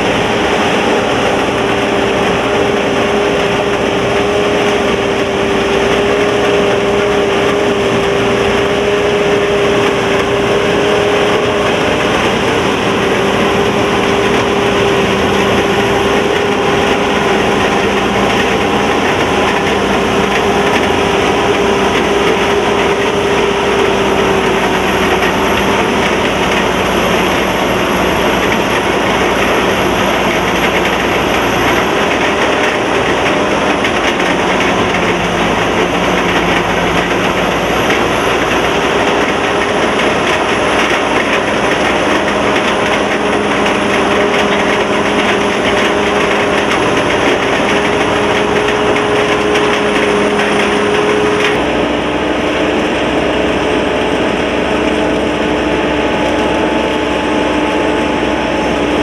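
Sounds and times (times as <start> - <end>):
combine harvester running: 0.0 - 59.0
steady machine whine: 0.0 - 59.0.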